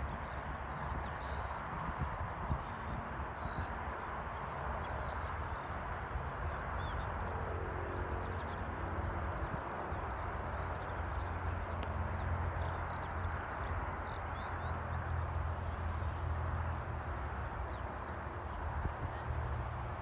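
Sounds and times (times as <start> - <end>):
small birds chirping: 0.0 - 5.7, 8.3 - 19.6.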